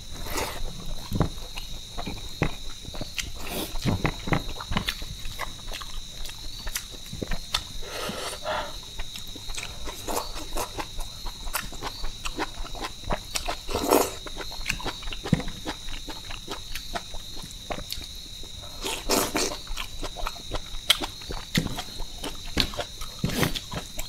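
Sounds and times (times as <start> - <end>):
wet chewing and lip-smacking: 0.2 - 7.9, 8.8 - 24.0.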